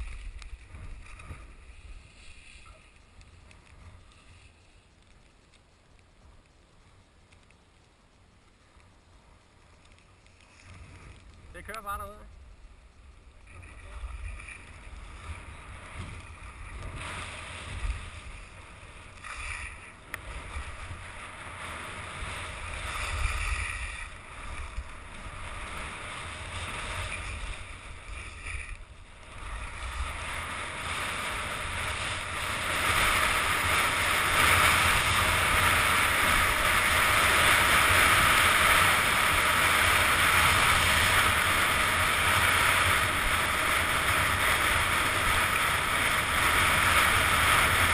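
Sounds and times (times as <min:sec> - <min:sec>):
skis hissing over packed snow: 0:00.0 - 0:05.0, 0:13.5 - 0:47.9
wind rumbling on microphone: 0:00.0 - 0:47.9.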